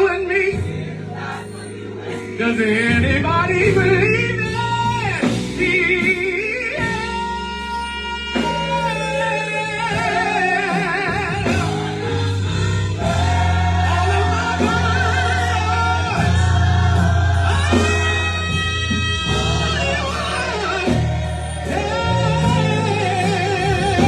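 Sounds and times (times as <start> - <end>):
gospel choir and band: 0.0 - 24.0
lead vocalist singing: 0.0 - 24.0.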